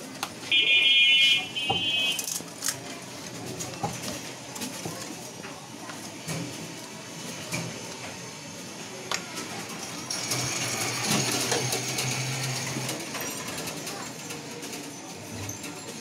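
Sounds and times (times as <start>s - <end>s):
small machine whirring with rattle: 2.1s - 16.0s.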